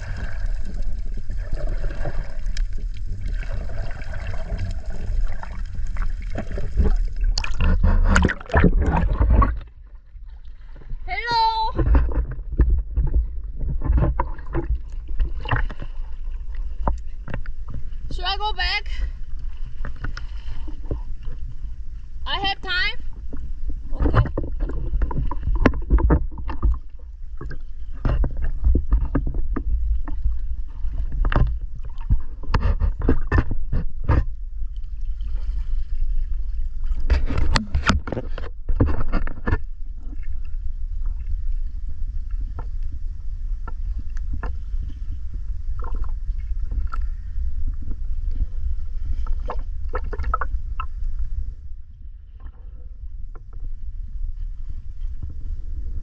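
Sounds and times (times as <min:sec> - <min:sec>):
steady low rumble: 0:00.0 - 0:56.0
water splashing and sloshing: 0:00.0 - 0:56.0.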